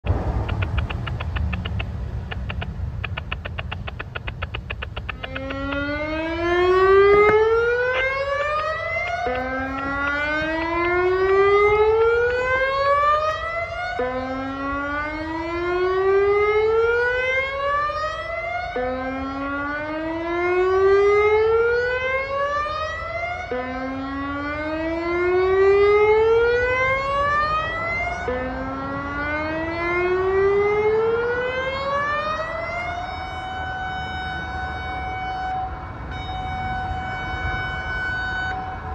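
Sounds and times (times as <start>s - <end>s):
electronic siren rising tone: 2.4s - 38.9s.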